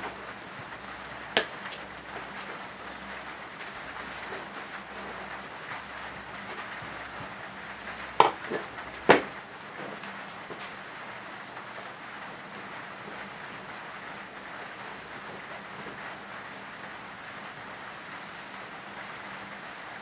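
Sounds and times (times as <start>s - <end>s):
rain patter: 0.0s - 20.0s.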